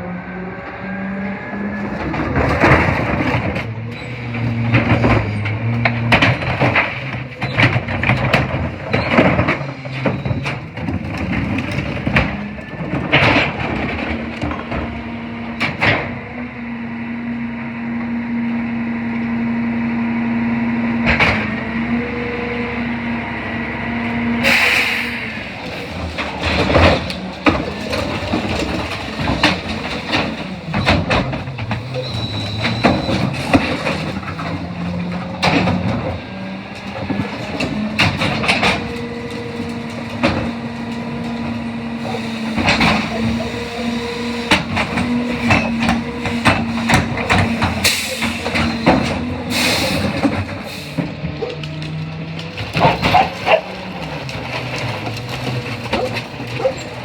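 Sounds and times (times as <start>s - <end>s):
garbage truck engine hum: 0.0s - 57.0s
bins clanking and banging: 1.5s - 16.5s, 20.8s - 57.0s.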